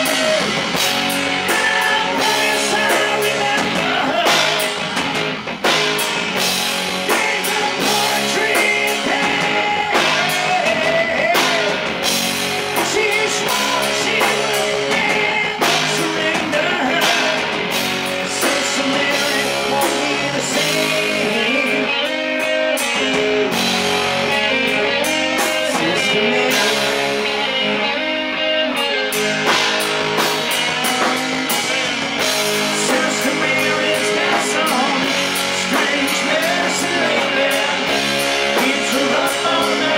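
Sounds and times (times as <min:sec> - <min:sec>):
man singing: 0:00.0 - 0:05.0, 0:07.0 - 0:29.2, 0:30.8 - 0:39.9
drum kit: 0:00.0 - 0:39.9
electric guitars: 0:00.0 - 0:39.9.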